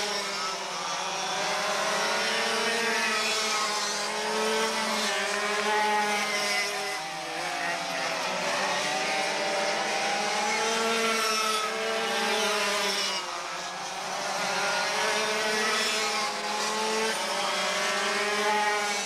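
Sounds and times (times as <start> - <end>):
go-kart engines racing: 0.0 - 19.0.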